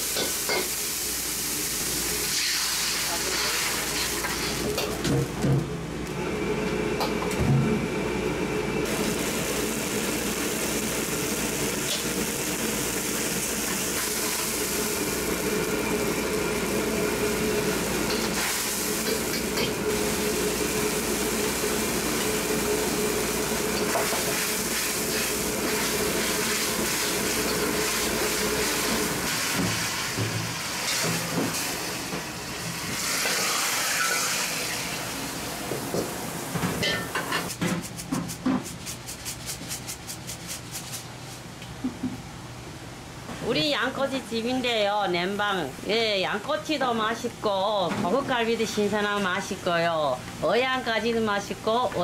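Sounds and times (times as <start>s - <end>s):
wok burner and exhaust roaring: 0.0s - 52.0s.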